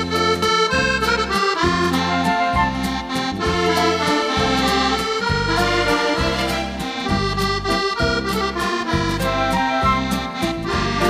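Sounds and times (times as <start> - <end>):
accordion music: 0.0 - 11.0.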